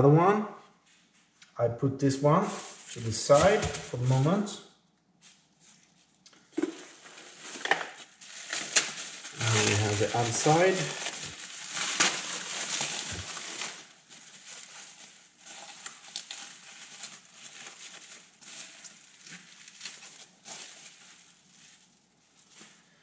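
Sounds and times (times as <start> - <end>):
bubble wrap crinkling: 2.5 - 4.2, 5.2 - 23.0.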